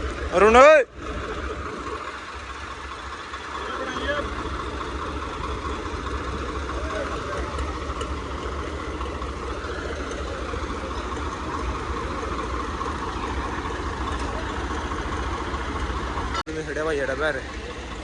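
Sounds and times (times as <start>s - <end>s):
tractor diesel engines running: 0.0s - 18.0s
crowd voices: 3.1s - 18.0s.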